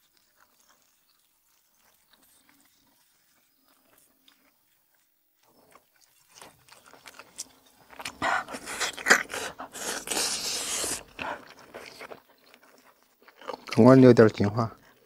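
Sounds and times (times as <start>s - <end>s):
person chewing meat off bone: 0.0s - 14.2s
crunching mouth noises: 0.0s - 15.0s.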